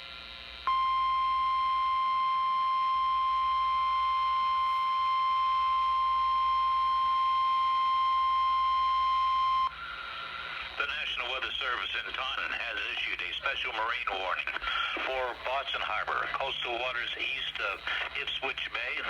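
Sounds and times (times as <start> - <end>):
weather radio alarm tone: 0.7 - 19.0.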